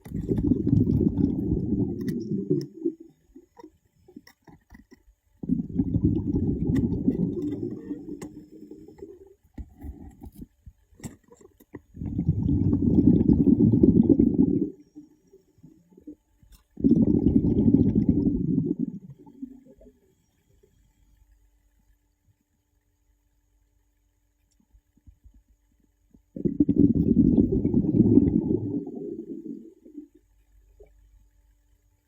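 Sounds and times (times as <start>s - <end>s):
rumbling gurgling water underwater: 0.0s - 20.8s, 26.0s - 31.6s.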